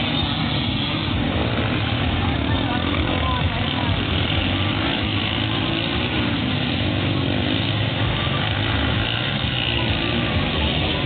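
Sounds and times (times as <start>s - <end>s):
dirt bike engines racing: 0.0s - 11.0s
noisy background: 0.0s - 11.0s.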